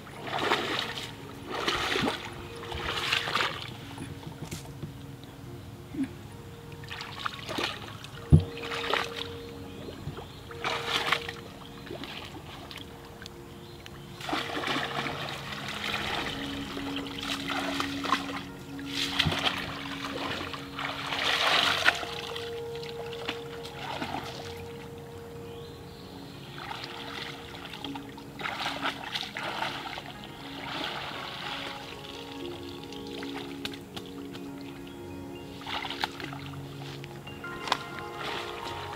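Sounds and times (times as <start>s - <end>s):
water splashing and dribbling: 0.0s - 25.4s, 26.4s - 38.9s
quiet background music: 0.0s - 38.9s.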